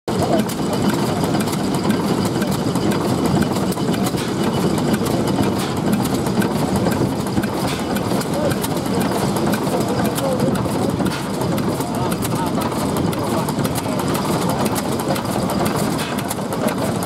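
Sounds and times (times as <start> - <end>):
stationary engine running: 0.1 - 17.0.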